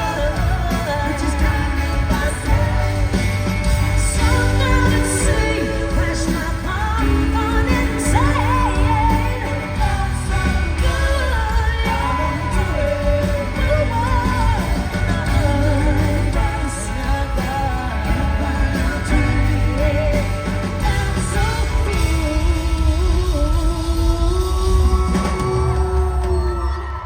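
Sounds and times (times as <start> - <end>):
steady bass: 0.0 - 26.6
live pop song: 0.0 - 27.0
person singing: 0.0 - 27.0.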